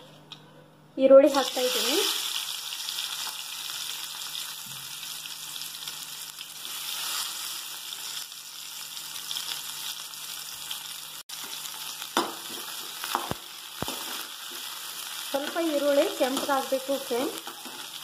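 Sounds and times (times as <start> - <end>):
onions sizzling in hot oil: 1.3 - 18.0.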